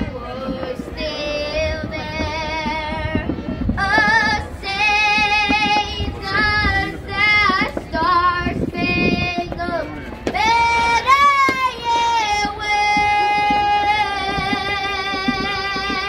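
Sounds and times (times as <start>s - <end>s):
woman singing through loudspeaker: 0.0s - 16.0s.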